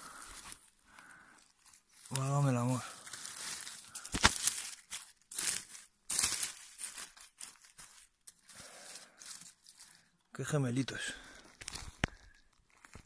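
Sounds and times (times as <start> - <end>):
pine needles and twigs rustling: 0.0 - 13.0.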